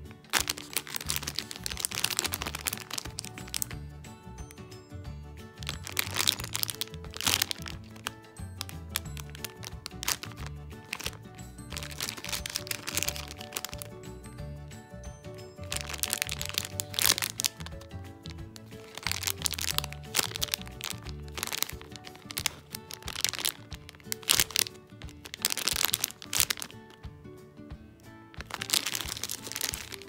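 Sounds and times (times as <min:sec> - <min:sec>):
background music: 0:00.0 - 0:30.0
plastic bag crinkling: 0:00.3 - 0:03.8, 0:05.6 - 0:14.0, 0:15.5 - 0:27.0, 0:28.4 - 0:30.0.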